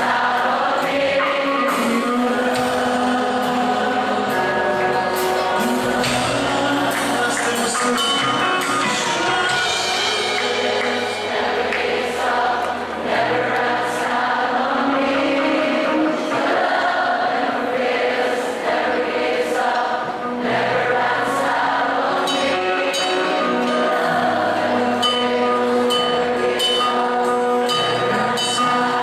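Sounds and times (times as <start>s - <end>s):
many voices singing together: 0.0s - 29.0s
sustained keyboard chords: 0.0s - 29.0s.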